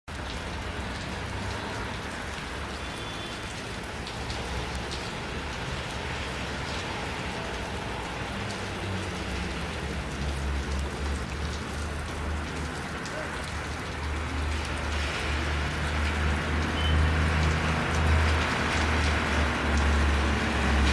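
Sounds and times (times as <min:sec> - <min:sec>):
dripping ticks: 0:00.1 - 0:20.9
wet snow falling on street: 0:00.1 - 0:20.9.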